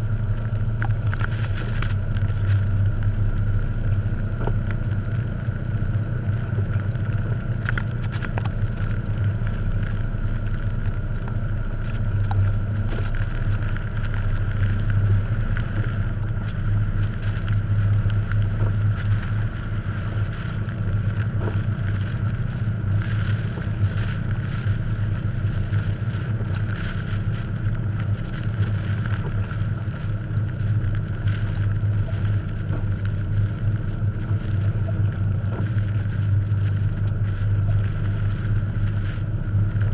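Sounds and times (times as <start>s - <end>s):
engine and drivetrain drone: 0.0s - 39.9s.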